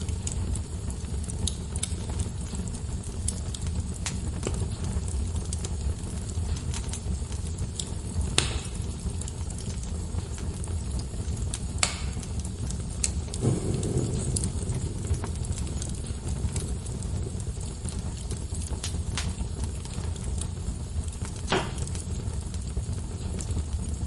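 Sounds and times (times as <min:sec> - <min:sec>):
low rumble of flames: 0:00.0 - 0:24.0
pops and snaps of burning logs: 0:00.0 - 0:24.0.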